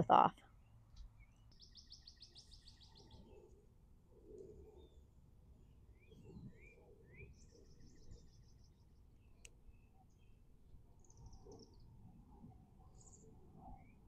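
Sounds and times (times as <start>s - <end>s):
faint birdsong chirps and trills: 0.4s - 14.0s.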